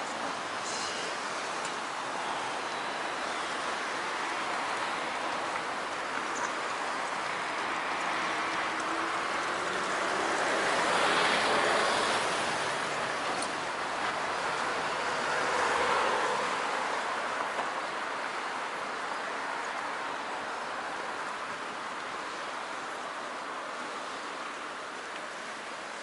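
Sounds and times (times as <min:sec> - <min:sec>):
tyres hissing on road: 0:00.0 - 0:26.0.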